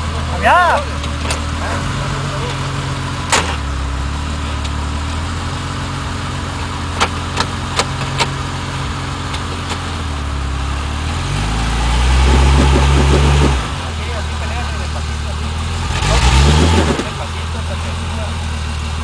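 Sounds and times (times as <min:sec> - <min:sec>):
vehicle engine idling and revving: 0:00.0 - 0:19.0.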